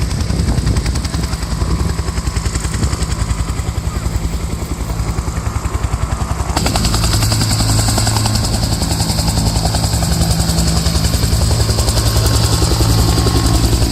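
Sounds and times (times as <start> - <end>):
helicopter rotor beating: 0.0 - 13.9
low engine drone: 0.0 - 13.9.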